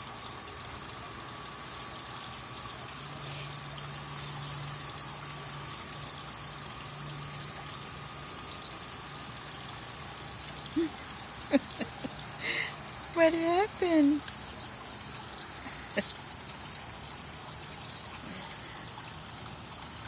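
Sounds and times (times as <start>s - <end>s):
trickle of running water: 0.0s - 20.0s.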